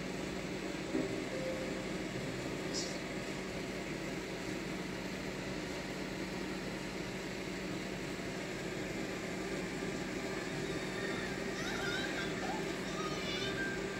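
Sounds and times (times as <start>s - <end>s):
low mechanical hum: 0.0s - 13.9s.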